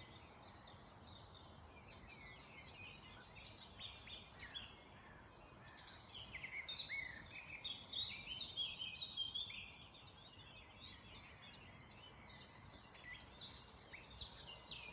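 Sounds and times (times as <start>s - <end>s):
birds singing and chirping: 0.0s - 14.9s.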